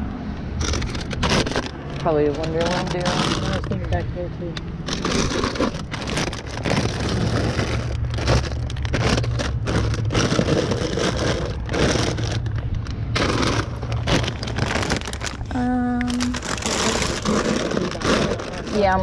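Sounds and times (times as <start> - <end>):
plastic wrappers crinkling: 0.6 - 4.0, 4.8 - 19.0.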